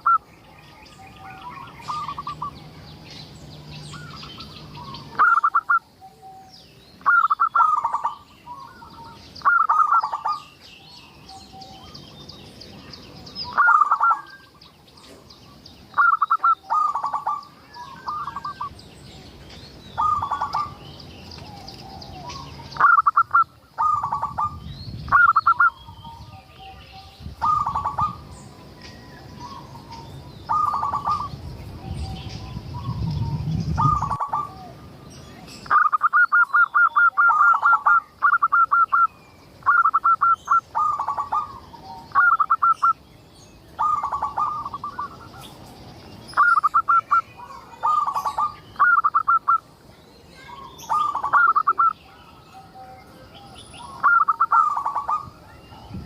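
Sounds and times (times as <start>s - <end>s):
dove trilled cooing: 0.0s - 0.3s, 1.0s - 3.0s, 3.9s - 12.0s, 13.4s - 18.8s, 20.0s - 35.0s, 35.6s - 43.0s, 43.8s - 49.7s, 50.4s - 56.0s
faint bird chirps: 0.0s - 56.0s.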